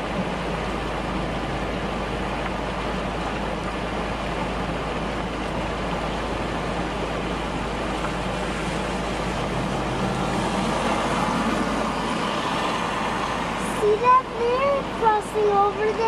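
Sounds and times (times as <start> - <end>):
car engine running: 0.0 - 16.0
floodwater running across road: 0.0 - 16.0
rain: 0.0 - 16.0.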